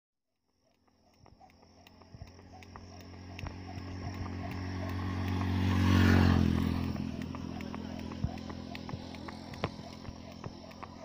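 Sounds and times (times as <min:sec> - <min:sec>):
skipping rope tapping ground: 0:00.4 - 0:11.0
motorcycle engine passing: 0:00.9 - 0:11.0.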